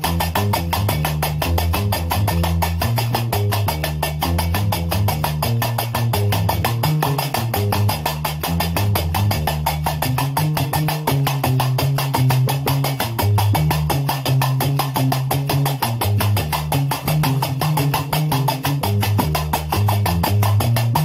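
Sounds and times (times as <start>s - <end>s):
iron castanets clicking: 0.0s - 21.0s
plucked bass lute: 0.0s - 21.0s.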